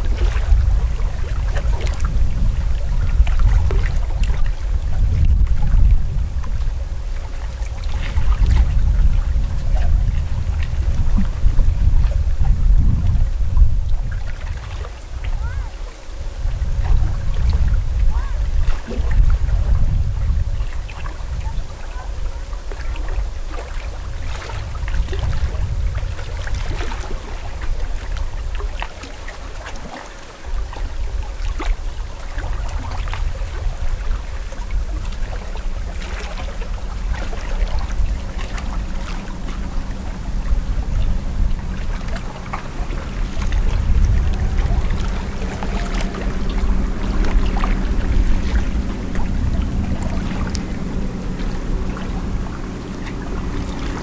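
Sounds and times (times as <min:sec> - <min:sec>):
low motor hum: 0:00.0 - 0:54.0
small waves lapping: 0:00.0 - 0:54.0
wind rumbling on microphone: 0:00.0 - 0:54.0.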